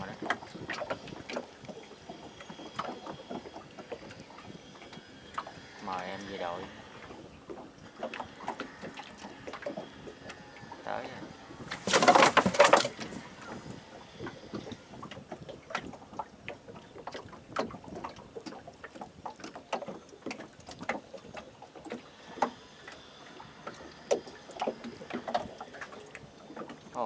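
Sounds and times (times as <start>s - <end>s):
boat splashing through water: 0.0s - 27.0s.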